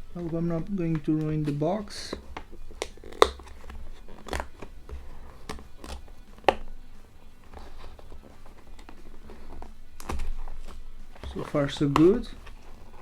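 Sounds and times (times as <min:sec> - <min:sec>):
cardboard box being opened: 0:00.2 - 0:06.7, 0:07.3 - 0:13.0.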